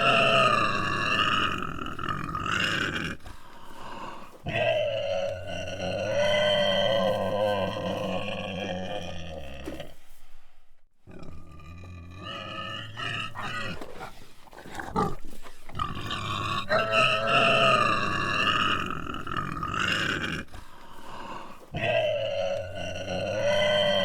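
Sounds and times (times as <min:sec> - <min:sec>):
pig grunting and squealing: 0:00.0 - 0:10.0, 0:11.0 - 0:24.0.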